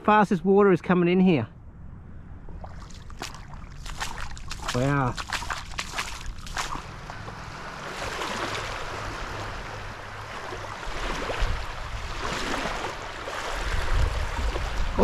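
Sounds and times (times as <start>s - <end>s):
wind rumble on microphone: 1.5s - 15.0s
water lapping in shallows: 2.4s - 15.0s.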